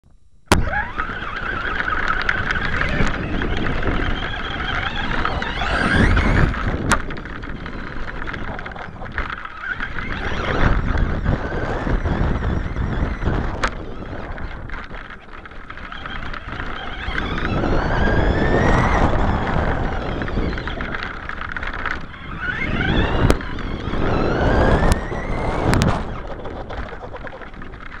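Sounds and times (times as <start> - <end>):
electric motor whining: 0.5 - 28.0
ground rumble: 0.5 - 28.0
heavy wind: 0.5 - 28.0.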